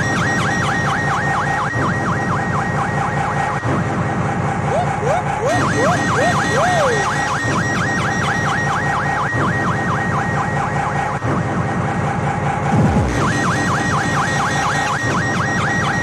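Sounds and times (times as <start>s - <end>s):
siren-like synth riff: 0.0s - 16.0s.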